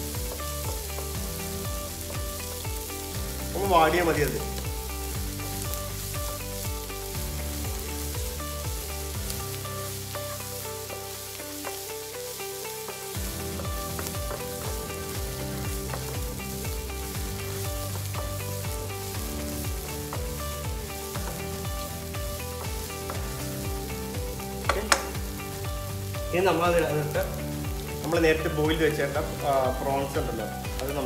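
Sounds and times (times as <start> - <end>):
vegetables sizzling in butter: 0.0 - 31.0.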